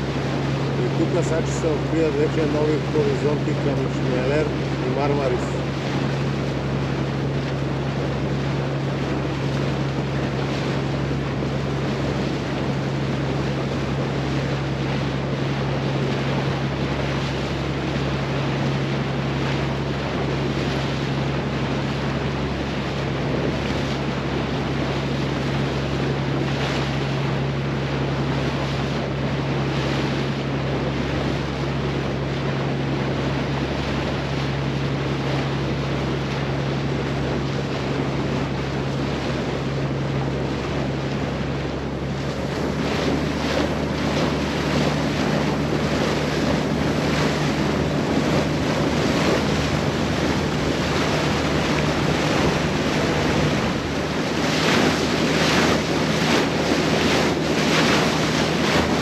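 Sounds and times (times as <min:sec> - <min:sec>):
boat diesel engine hum: 0:00.0 - 0:59.0
water rushing along hull: 0:00.0 - 0:59.0
waves splashing: 0:00.0 - 0:59.0
wind buffeting microphone: 0:00.0 - 0:59.0.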